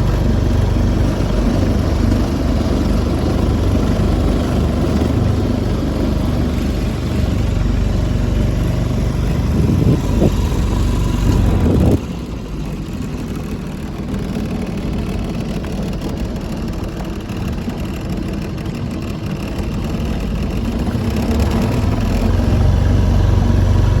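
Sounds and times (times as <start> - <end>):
motorboat engine running: 0.0 - 24.0.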